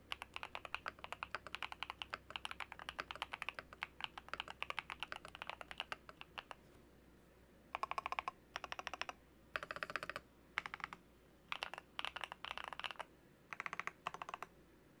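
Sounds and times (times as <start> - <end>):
mechanical keyboard typing: 0.0 - 6.6, 7.8 - 14.5.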